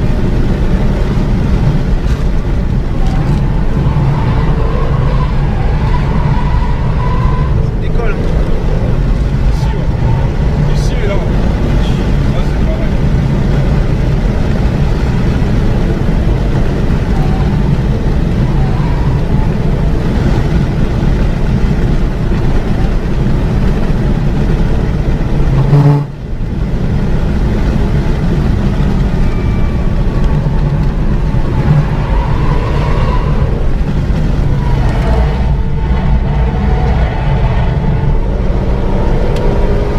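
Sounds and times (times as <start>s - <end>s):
car engine running hard: 0.0s - 39.9s
road and wind noise: 0.0s - 39.9s.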